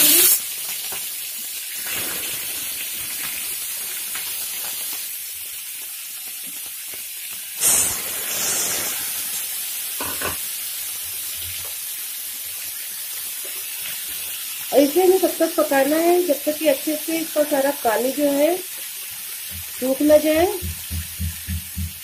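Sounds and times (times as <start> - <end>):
prawns sizzling in oil: 0.0 - 22.0.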